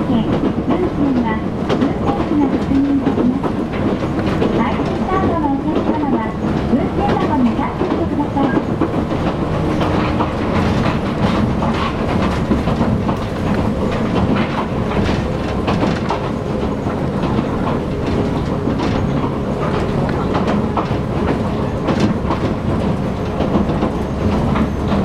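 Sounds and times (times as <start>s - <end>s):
train wheels rumbling on rail: 0.0s - 25.0s
rapid clatter of clicks: 0.3s - 25.0s.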